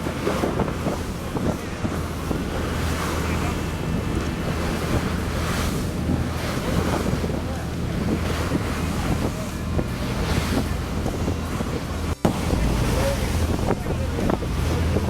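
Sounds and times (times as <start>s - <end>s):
boat engine drone: 0.0s - 15.0s
water washing: 0.0s - 15.0s
wind noise on microphone: 0.0s - 15.0s.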